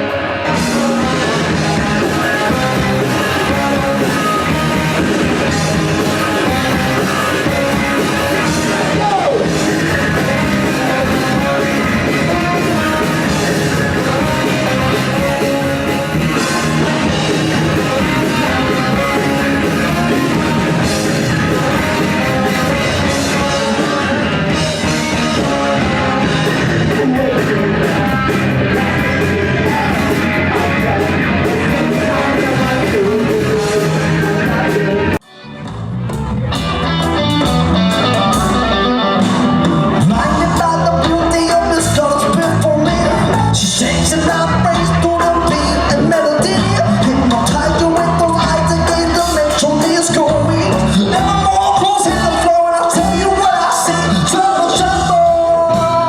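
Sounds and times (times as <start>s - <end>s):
heavy rock music with singing: 0.0s - 56.0s.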